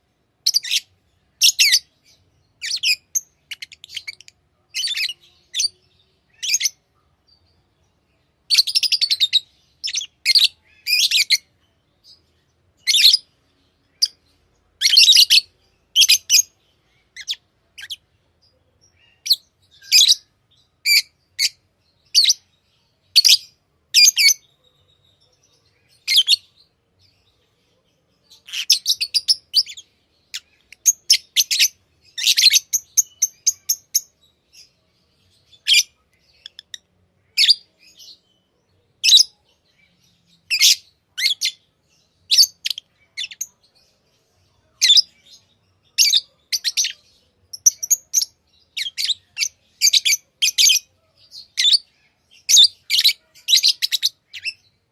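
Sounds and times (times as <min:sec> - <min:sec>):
lovebirds shrill chirps: 0:00.4 - 0:06.8, 0:08.5 - 0:12.2, 0:12.8 - 0:13.3, 0:14.8 - 0:18.0, 0:18.8 - 0:22.5, 0:23.1 - 0:27.2, 0:28.3 - 0:38.4, 0:39.0 - 0:43.9, 0:44.7 - 0:54.8.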